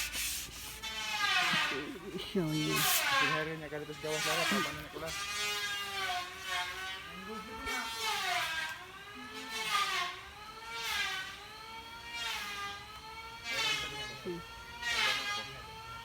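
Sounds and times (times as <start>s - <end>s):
motor whining: 0.0s - 16.0s.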